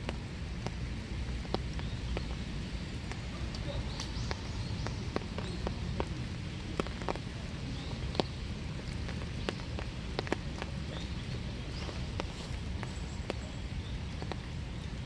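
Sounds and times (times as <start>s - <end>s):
low background hiss: 0.0s - 15.0s
raindrops dripping and tapping: 0.0s - 15.0s.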